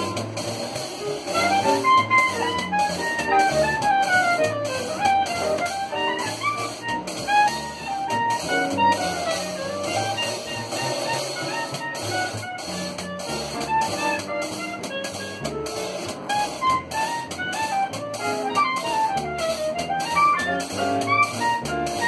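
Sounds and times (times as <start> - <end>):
live jazz band playing: 0.0 - 22.0
trumpet: 0.0 - 22.0
saxophone: 1.0 - 22.0.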